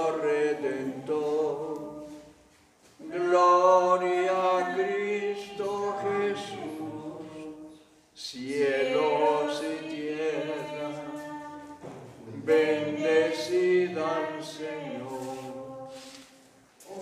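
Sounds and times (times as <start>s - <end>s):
voices singing a hymn: 0.0s - 17.0s.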